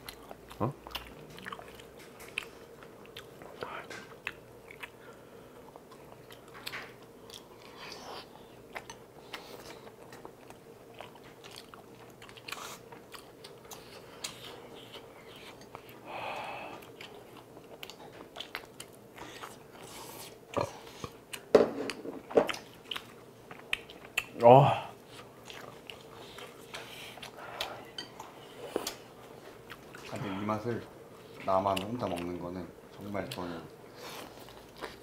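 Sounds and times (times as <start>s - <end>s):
chewing and mouth noises: 0.0s - 30.4s, 31.2s - 35.0s.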